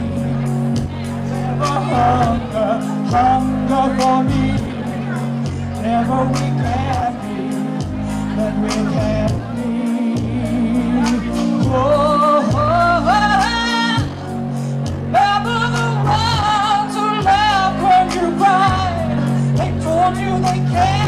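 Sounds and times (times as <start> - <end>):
pop song with singing: 0.0 - 21.0.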